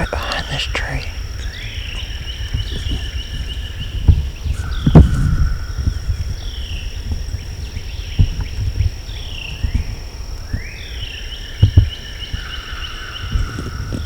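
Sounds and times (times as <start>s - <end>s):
high insect drone: 0.0s - 14.0s
songbirds whistling: 1.2s - 14.0s.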